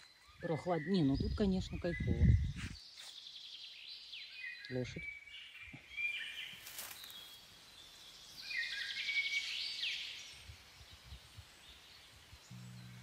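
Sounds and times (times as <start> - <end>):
faint outdoor hiss: 0.0 - 13.0
songbirds singing: 0.0 - 13.0.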